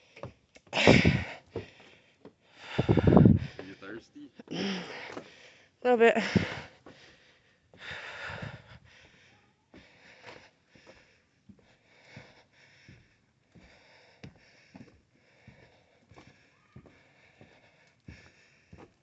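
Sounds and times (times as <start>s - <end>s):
person breathing hard and sniffing: 0.0s - 19.0s.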